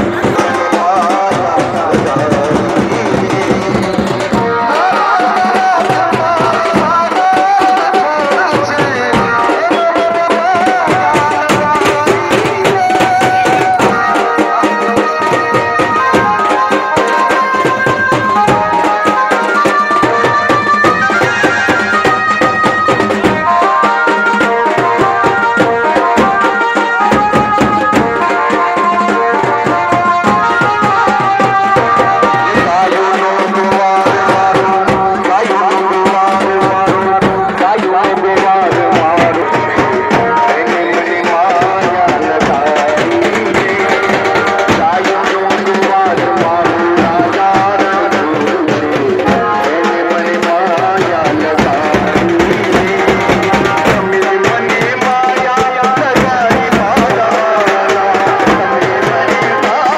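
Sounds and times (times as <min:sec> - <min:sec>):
fast hand drum rhythm: 0:00.0 - 0:59.9.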